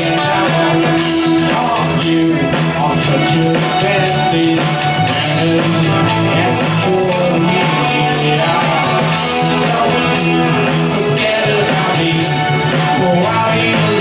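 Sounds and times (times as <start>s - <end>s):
lead singer singing: 0.0s - 14.0s
live rock band through pa: 0.0s - 14.0s.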